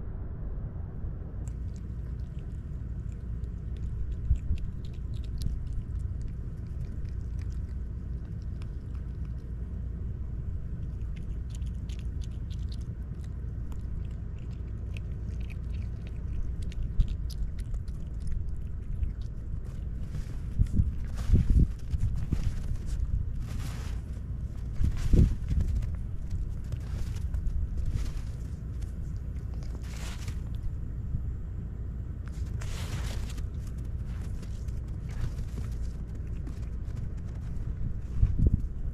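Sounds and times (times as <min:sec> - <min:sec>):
low rumble: 0:00.0 - 0:38.9
animal crunching nuts: 0:01.4 - 0:30.9, 0:32.2 - 0:38.8.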